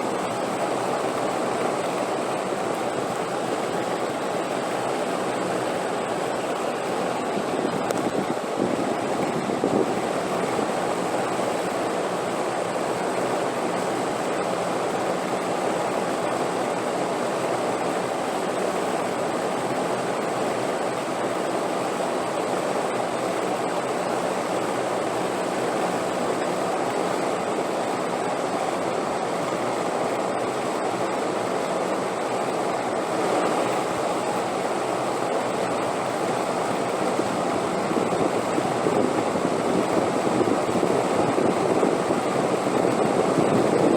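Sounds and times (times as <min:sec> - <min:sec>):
steady wind: 0:00.0 - 0:43.9.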